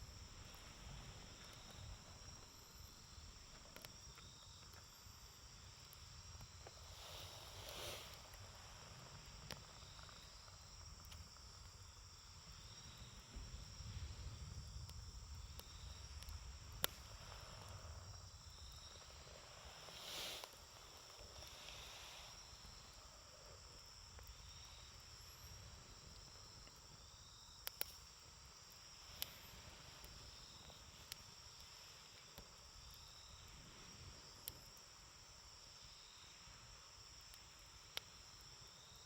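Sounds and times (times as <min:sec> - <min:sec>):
campfire crackling: 0:00.0 - 0:39.0
crickets chirping: 0:00.0 - 0:39.0.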